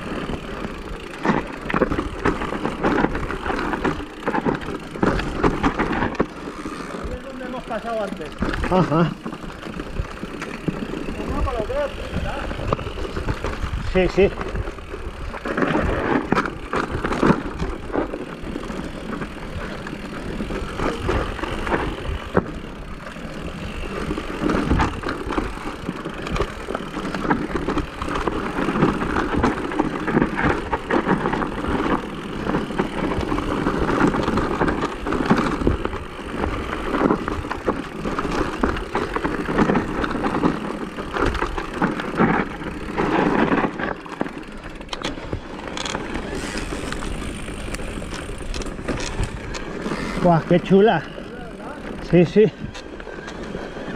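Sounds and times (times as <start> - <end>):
bike knocking and rattling: 0.0 - 53.9
tyres crunching over dirt: 0.0 - 53.9.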